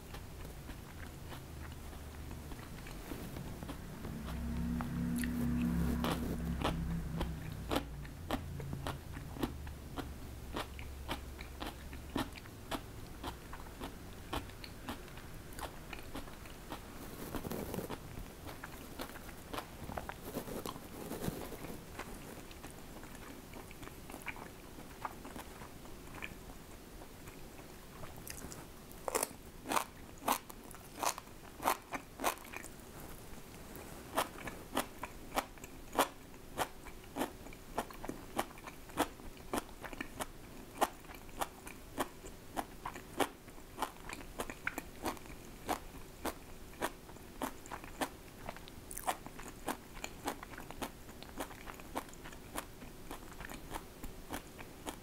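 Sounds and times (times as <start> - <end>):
person chewing crunchy food: 0.0 - 32.8, 33.7 - 55.0.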